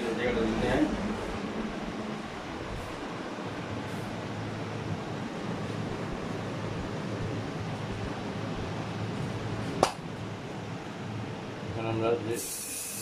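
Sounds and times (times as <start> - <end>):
room hum and fan hiss: 0.0 - 13.0.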